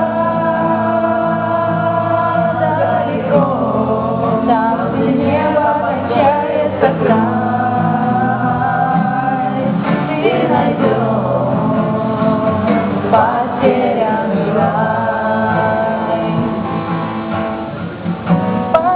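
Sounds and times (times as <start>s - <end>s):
voices singing: 0.0s - 17.2s.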